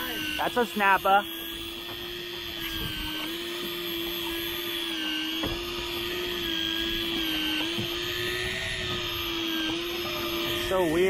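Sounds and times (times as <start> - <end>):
fishing reel motor whining: 0.0 - 11.0.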